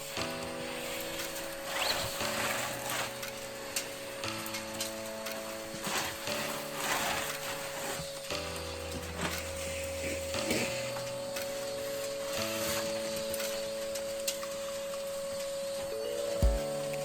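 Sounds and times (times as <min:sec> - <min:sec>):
music of held chords: 0:00.0 - 0:17.0.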